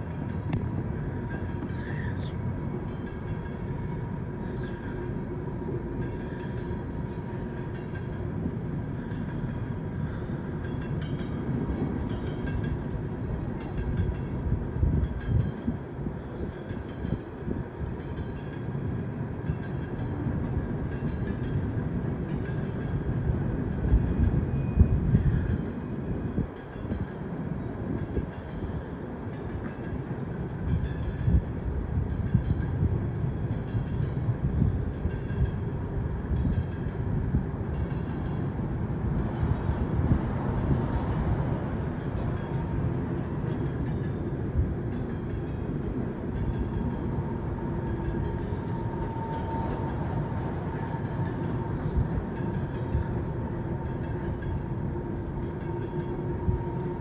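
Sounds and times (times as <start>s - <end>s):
train cars rumbling: 0.0s - 57.0s.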